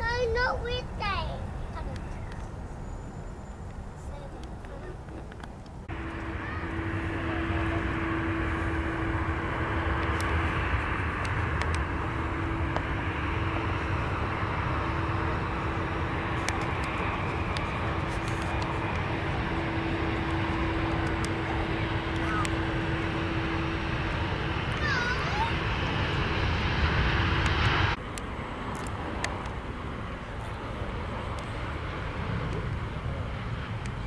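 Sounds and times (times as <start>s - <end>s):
jet engines droning: 0.0s - 34.0s.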